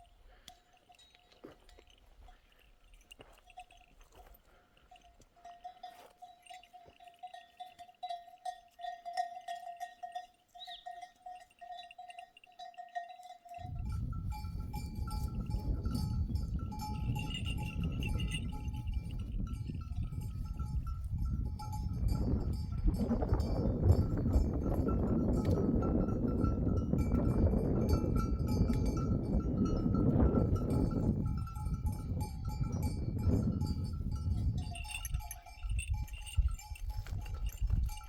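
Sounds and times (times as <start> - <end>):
sheep bells clinking: 0.0 - 38.0.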